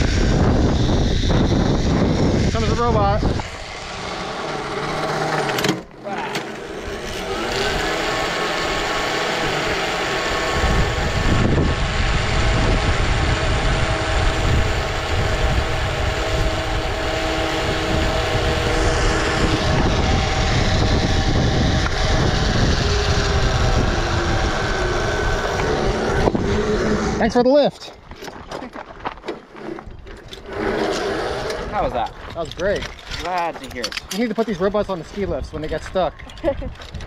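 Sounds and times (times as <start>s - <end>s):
wind rumble on microphone: 0.0s - 4.2s, 6.8s - 29.2s, 29.8s - 37.0s
motor whining: 0.0s - 28.4s, 29.6s - 34.6s.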